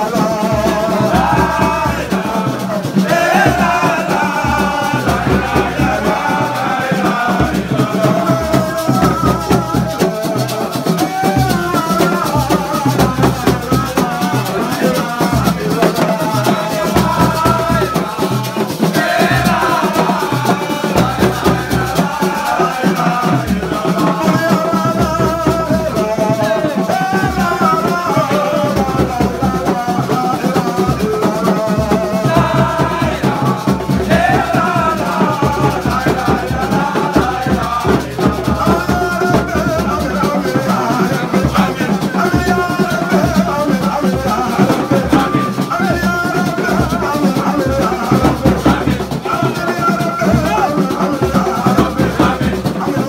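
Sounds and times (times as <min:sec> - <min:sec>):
fast rattling percussion: 0:00.0 - 0:53.0
man chanting into a microphone: 0:00.0 - 0:53.0.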